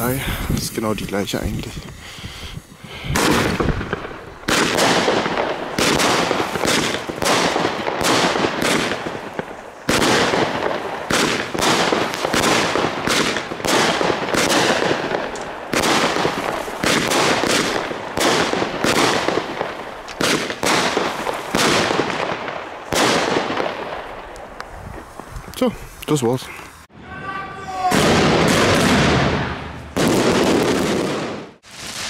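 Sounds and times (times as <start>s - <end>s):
firework shots launching: 3.1s - 25.3s, 27.8s - 32.0s.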